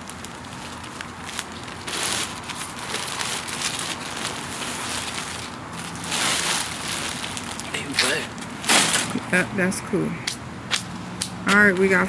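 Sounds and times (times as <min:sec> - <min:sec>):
items rustling and crinkling: 0:00.0 - 0:09.7.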